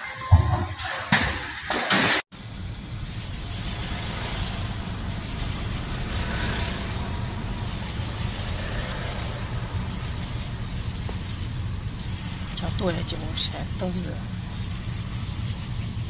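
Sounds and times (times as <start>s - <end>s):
car engine and road rumble: 2.3s - 16.0s
even road hiss: 2.4s - 16.0s.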